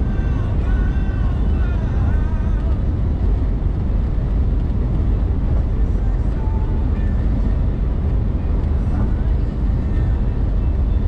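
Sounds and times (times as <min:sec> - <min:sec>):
road tyre and engine rumble in car: 0:00.0 - 0:11.0.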